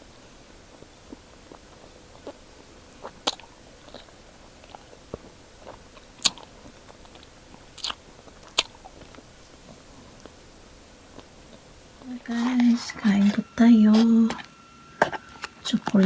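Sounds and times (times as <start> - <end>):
person chewing a snack: 0.7 - 16.0.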